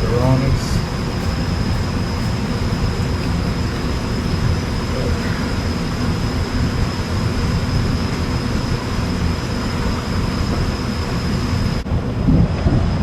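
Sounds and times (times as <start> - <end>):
steam cleaner hissing: 0.0 - 11.8
high whine: 0.0 - 13.0.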